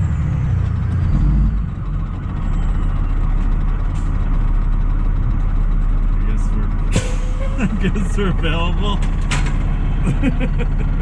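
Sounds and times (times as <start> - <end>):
fire truck engine rumbling: 0.0 - 11.0.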